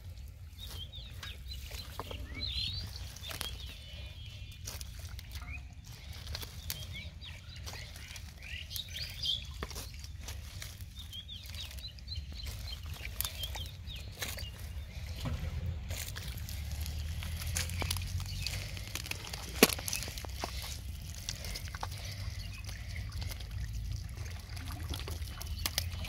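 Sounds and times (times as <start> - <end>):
birds chirping: 0.0 - 26.0
hands squelching in mud and water: 0.4 - 26.0.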